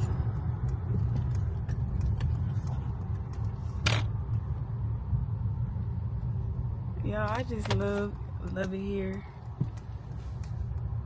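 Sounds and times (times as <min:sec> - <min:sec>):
car low rumble: 0:00.0 - 0:11.0.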